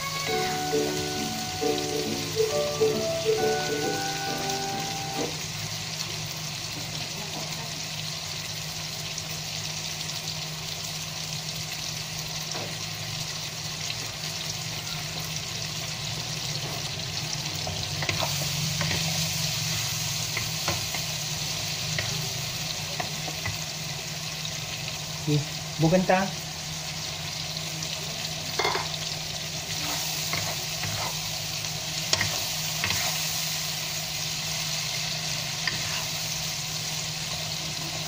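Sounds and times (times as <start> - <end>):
food sizzling in a wok: 0.0 - 38.0.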